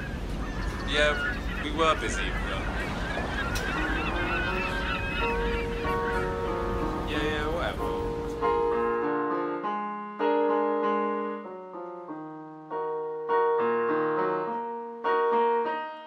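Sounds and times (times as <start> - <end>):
light piano notes: 0.0 - 16.0
piano chords ringing: 0.0 - 16.0.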